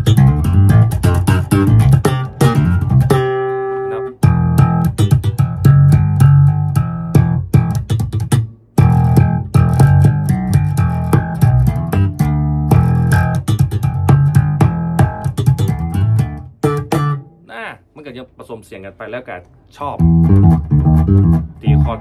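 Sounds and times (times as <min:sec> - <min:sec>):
slap bass guitar: 0:00.0 - 0:17.4, 0:19.8 - 0:22.0.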